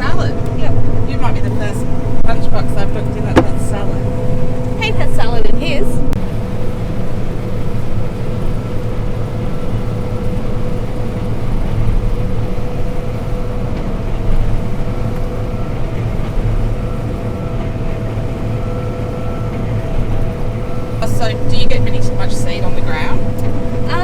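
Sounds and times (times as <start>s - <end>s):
combine harvester drone from cab: 0.0s - 24.0s.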